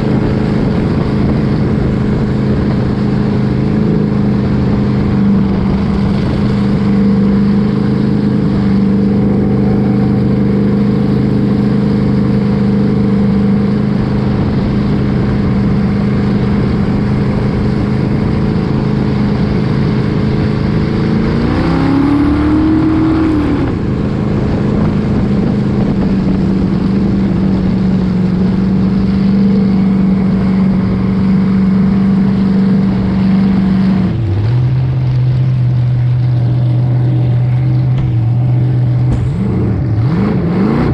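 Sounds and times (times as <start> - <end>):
engine running steadily: 0.0 - 40.9
passing engine: 0.0 - 40.9.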